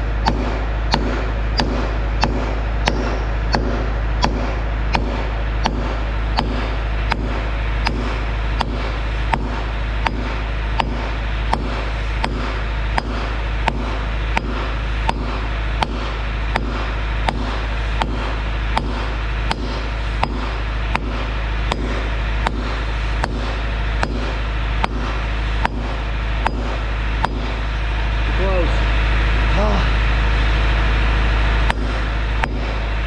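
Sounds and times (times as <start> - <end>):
hammer blows on metal pin: 0.0 - 27.6
low hum: 0.0 - 33.0.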